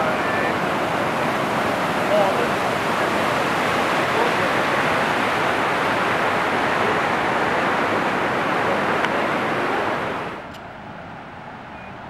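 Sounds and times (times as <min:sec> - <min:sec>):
waterfall roaring: 0:00.0 - 0:11.8.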